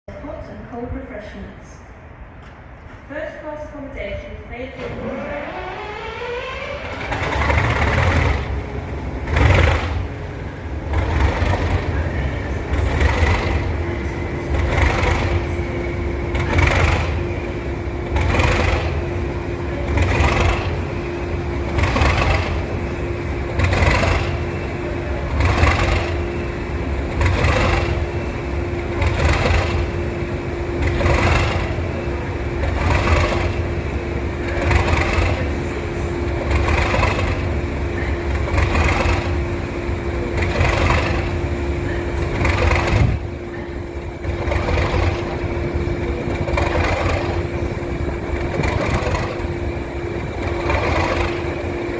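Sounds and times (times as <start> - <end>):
diesel locomotive engine surging: 0.0 - 51.9
steady hum: 0.1 - 51.9.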